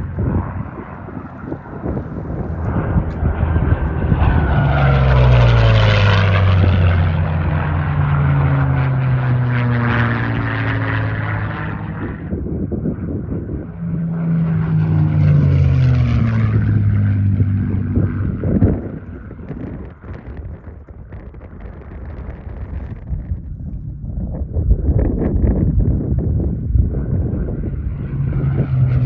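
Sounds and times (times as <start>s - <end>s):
propeller plane flyby: 0.0s - 29.0s.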